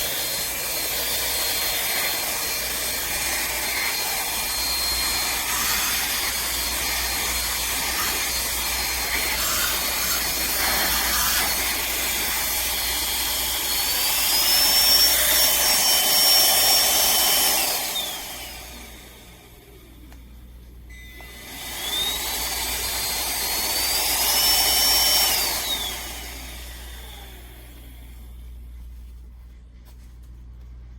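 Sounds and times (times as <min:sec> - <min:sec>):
handheld vacuum motor whining: 0:00.0 - 0:20.2, 0:20.9 - 0:28.3.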